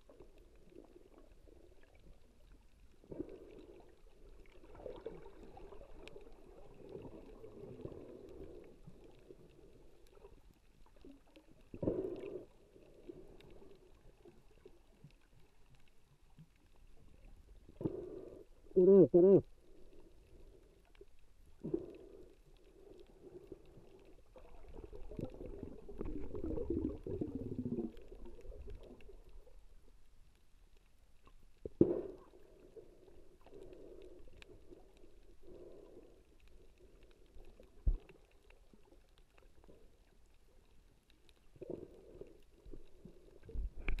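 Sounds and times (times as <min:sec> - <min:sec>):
underwater swishing and bubbling: 0:00.0 - 0:44.0.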